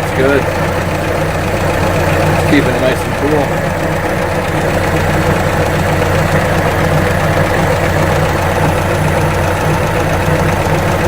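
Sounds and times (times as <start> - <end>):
inboard engine idling: 0.0 - 11.0.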